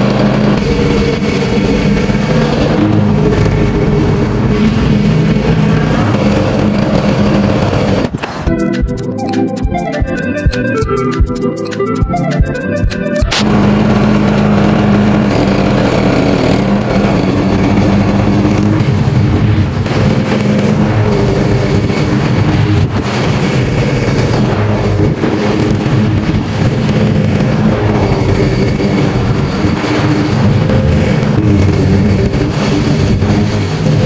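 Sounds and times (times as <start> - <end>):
lawn mower engine running: 0.0 - 34.0.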